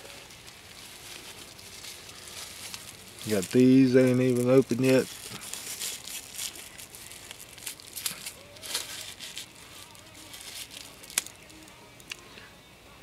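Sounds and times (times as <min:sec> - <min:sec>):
plastic bags crinkling: 0:00.0 - 0:11.8.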